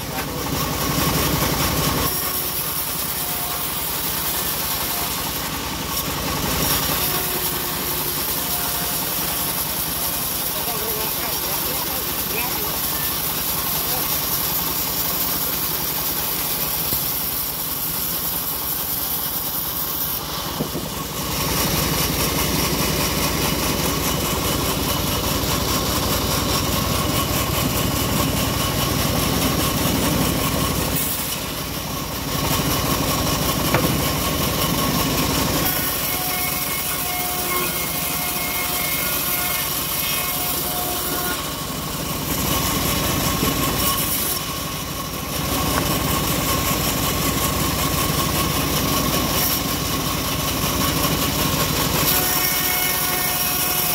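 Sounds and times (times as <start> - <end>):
bandsaw mill cutting log: 0.0 - 53.9.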